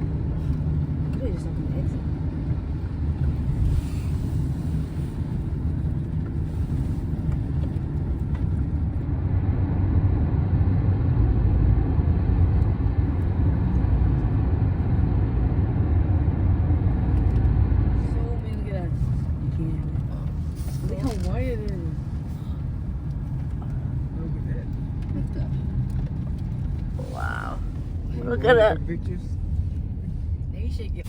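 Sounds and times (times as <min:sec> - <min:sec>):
car road noise rumble: 0:00.0 - 0:31.0.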